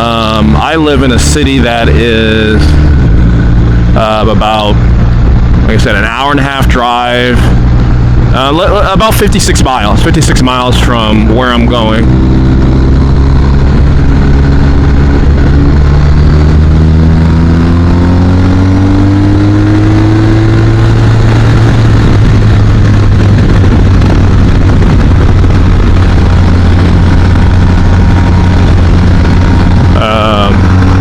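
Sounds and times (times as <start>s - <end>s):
loud steady rush of noise: 0.0s - 31.0s
motorcycle engine running: 0.0s - 31.0s.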